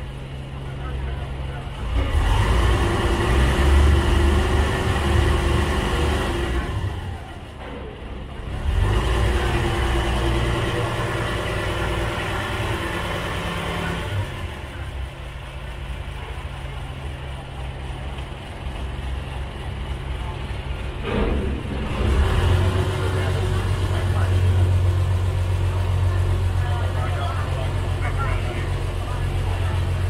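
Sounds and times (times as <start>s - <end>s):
ferry engine rumbling: 0.0s - 30.0s.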